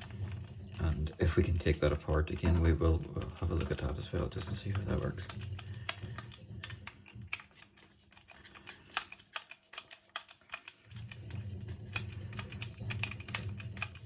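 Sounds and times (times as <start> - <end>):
light clicks and taps of tool parts: 0.0 - 14.0.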